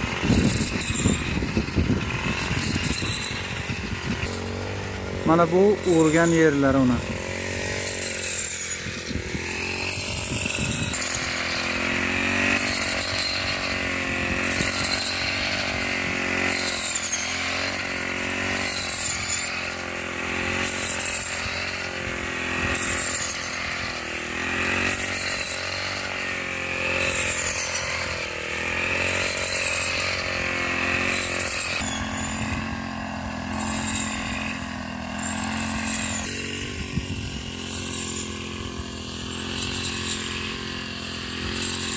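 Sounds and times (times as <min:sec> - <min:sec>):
small harvester engine running: 0:00.0 - 0:41.9.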